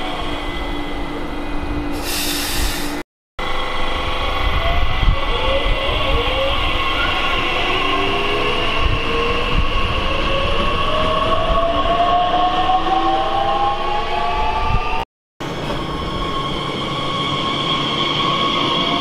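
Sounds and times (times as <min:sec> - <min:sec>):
electric train whine: 0:00.0 - 0:19.0
rail noise: 0:00.0 - 0:19.0.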